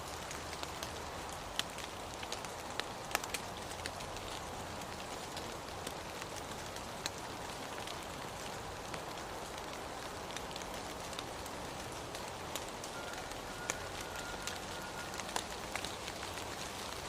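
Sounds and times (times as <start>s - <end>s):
raindrops pattering close by: 0.0s - 17.0s
steady rain hiss: 0.0s - 17.0s.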